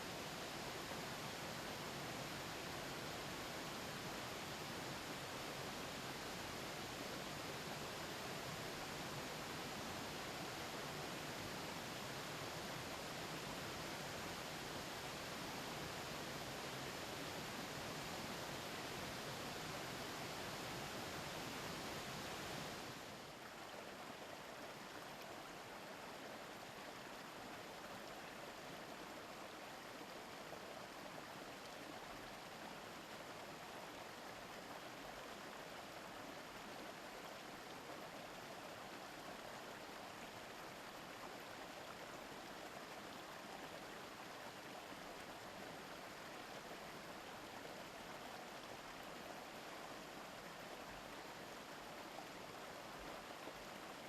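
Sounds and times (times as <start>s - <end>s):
river babbling over stones: 0.3s - 54.0s.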